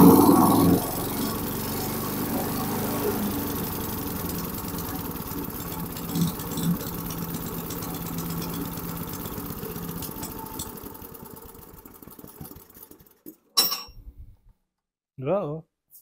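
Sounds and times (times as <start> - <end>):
small engine running: 0.0 - 13.5.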